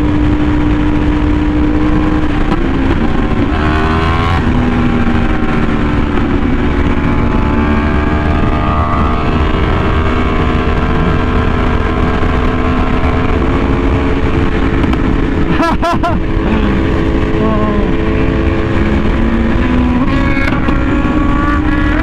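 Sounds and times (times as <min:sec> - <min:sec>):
motorcycle engine running hard: 0:00.0 - 0:22.0
wind rush on microphone: 0:00.0 - 0:22.0.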